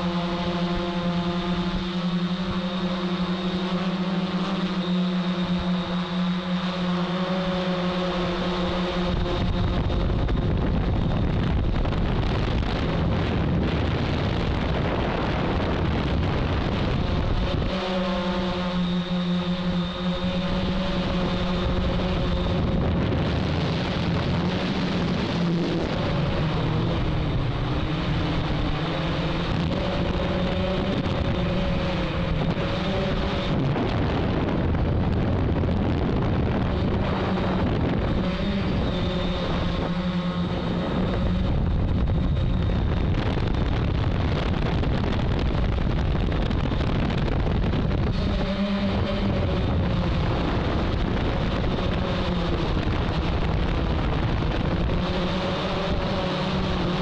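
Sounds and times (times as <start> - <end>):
drone motors whining: 0.0 - 57.0
wind on microphone: 0.0 - 57.0.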